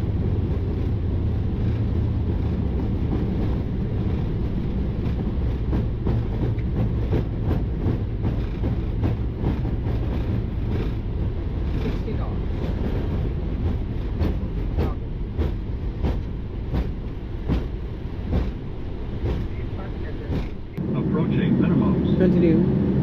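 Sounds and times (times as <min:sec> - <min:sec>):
airplane tyres rumbling on runway: 0:00.0 - 0:23.0.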